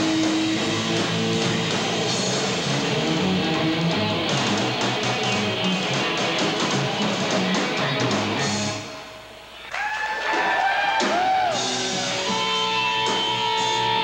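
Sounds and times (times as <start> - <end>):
guitar lead with bending notes: 0.0 - 8.9, 11.6 - 14.0
live rock band playing: 0.0 - 9.7, 10.9 - 14.0.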